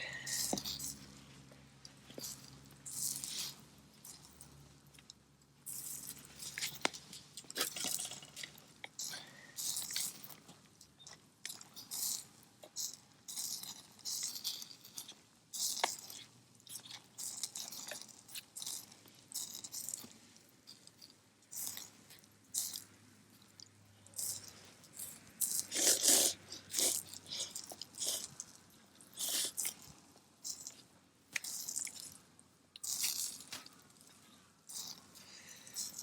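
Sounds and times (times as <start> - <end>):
person chewing crunchy food: 0.0 - 1.1, 2.2 - 22.9, 23.5 - 36.0.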